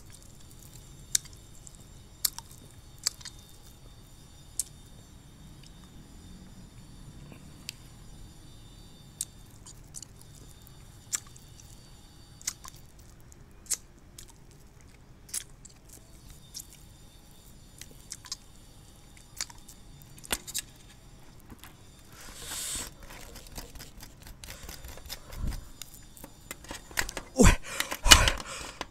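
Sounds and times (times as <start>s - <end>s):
candy crunching when chewed: 0.0s - 4.0s, 4.6s - 5.9s, 9.2s - 28.9s.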